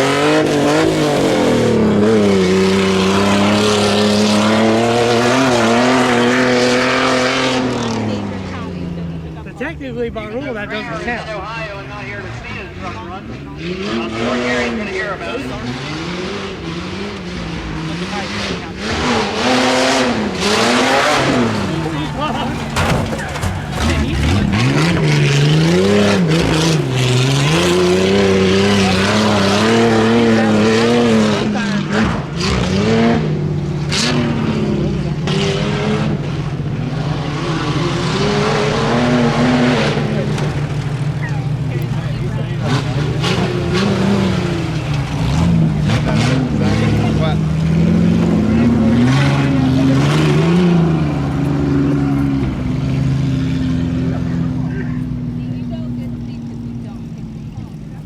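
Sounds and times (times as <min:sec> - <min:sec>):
truck engine revving hard: 0:00.0 - 0:58.0.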